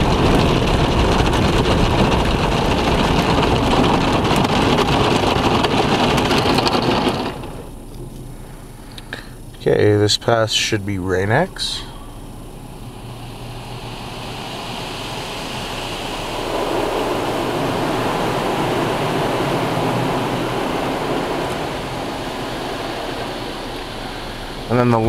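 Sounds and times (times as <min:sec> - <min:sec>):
water spray rushing on a car: 0:00.0 - 0:07.9, 0:12.3 - 0:25.0.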